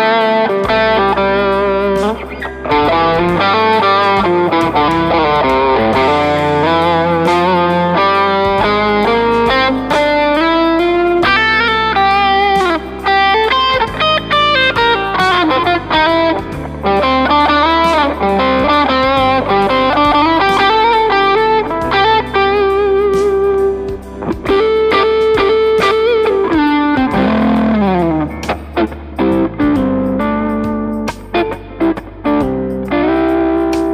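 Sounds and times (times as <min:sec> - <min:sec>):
backing track with bass and beat: 0:00.0 - 0:33.9
electric guitar lead: 0:00.0 - 0:33.9.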